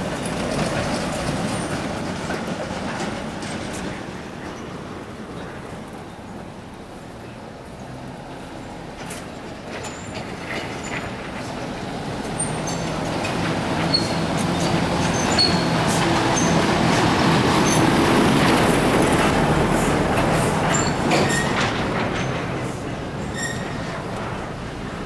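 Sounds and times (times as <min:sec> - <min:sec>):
truck engine: 0:00.0 - 0:25.0.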